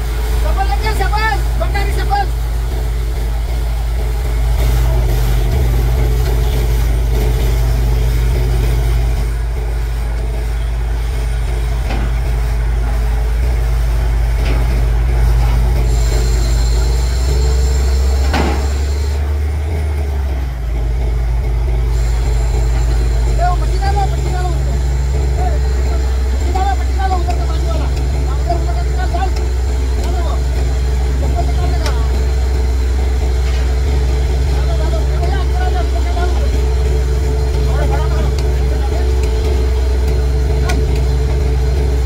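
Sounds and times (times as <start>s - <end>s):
drilling rig engine drone: 0.0s - 42.0s.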